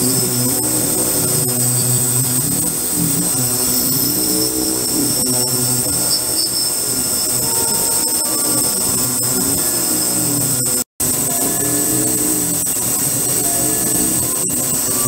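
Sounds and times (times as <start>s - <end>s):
low wavering hum: 0.0s - 15.0s
ultrasonic cleaner whine and hiss: 0.0s - 15.0s.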